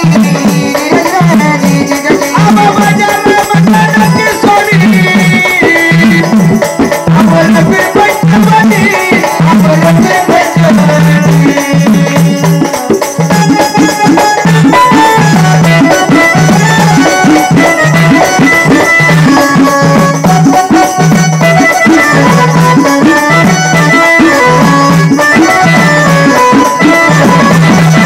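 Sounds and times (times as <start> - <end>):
drums: 0.0 - 28.0
folk music ensemble: 0.0 - 28.0
rattling percussion: 0.0 - 28.0.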